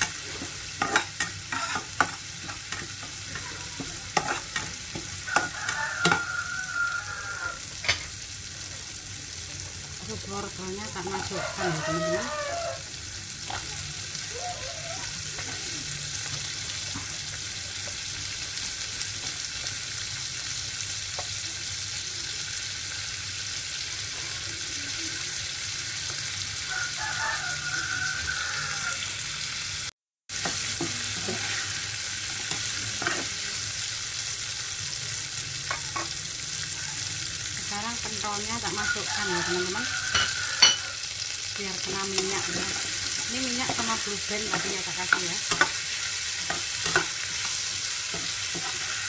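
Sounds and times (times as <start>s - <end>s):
vegetables sizzling in hot oil: 0.0s - 49.0s.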